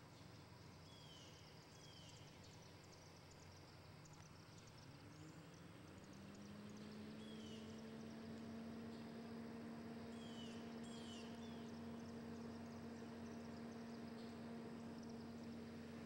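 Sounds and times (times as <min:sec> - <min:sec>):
low hum: 0:02.1 - 0:16.0.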